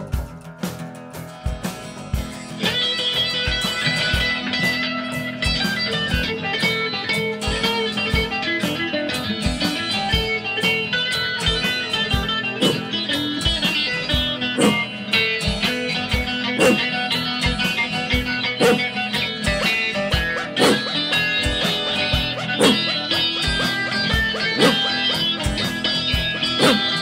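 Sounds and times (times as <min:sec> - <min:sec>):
bass: 0:00.0 - 0:27.0
electric guitar: 0:00.0 - 0:27.0.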